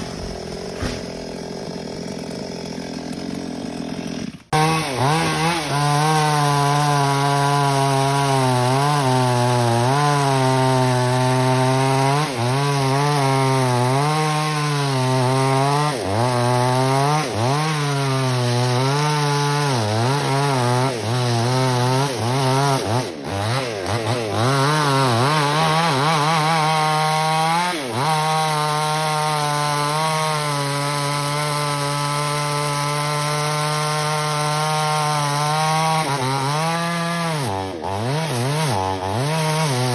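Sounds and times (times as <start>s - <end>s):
chainsaw cutting branches: 0.0s - 39.9s.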